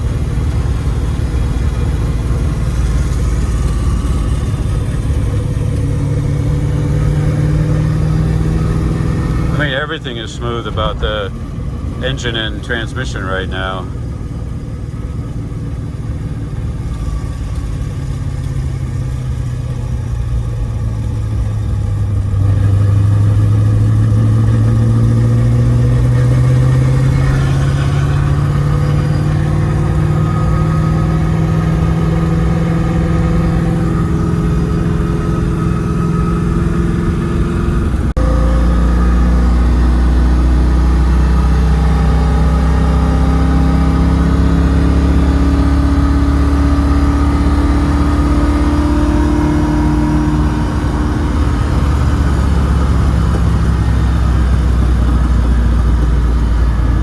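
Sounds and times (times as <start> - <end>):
car engine revving inside car: 0.0 - 57.0.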